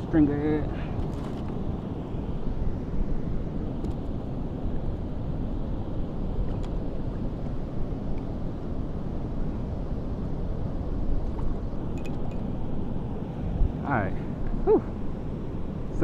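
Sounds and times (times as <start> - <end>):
river water flowing: 0.0 - 16.0
wind buffeting microphone: 0.0 - 16.0.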